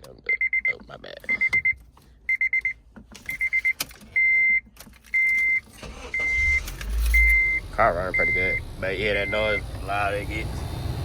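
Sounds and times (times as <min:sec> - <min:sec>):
dashboard warning chime beeping: 0:00.3 - 0:09.8.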